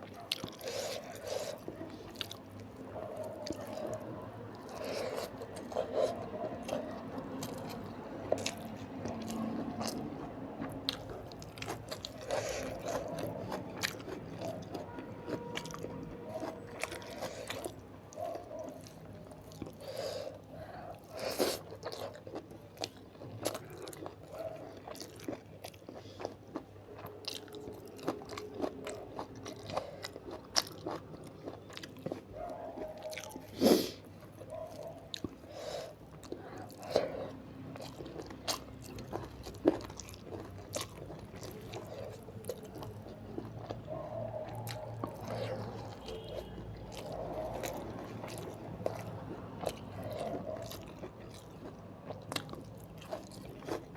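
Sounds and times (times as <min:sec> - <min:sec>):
chewing with crunches: 0:00.0 - 0:53.9.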